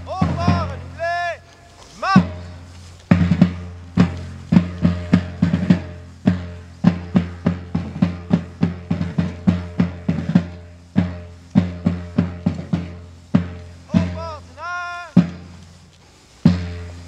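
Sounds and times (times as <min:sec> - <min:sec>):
side drum marching cadence: 0:00.0 - 0:17.0.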